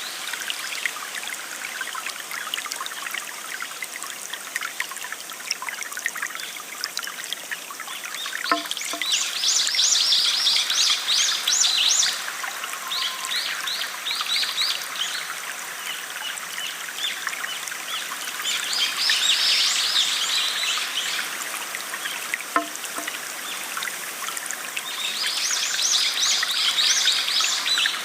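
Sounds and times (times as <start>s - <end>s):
stream trickling: 0.0s - 28.0s.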